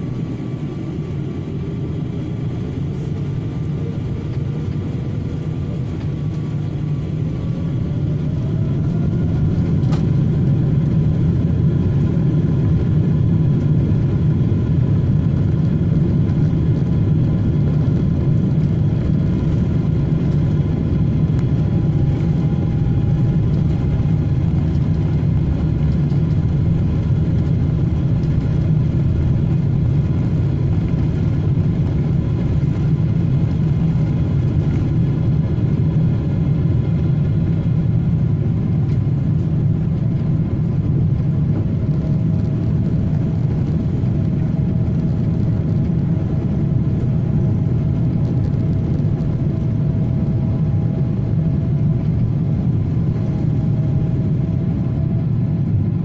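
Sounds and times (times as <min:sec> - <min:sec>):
engine rumble: 0:00.0 - 0:56.0.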